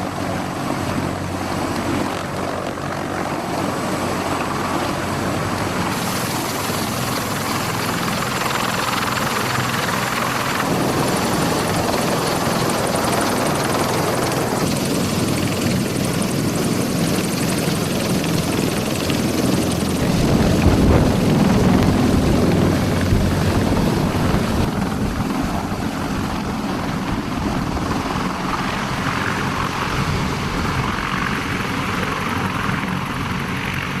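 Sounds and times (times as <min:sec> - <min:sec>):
helicopter rotors and turbines: 0:00.0 - 0:34.0.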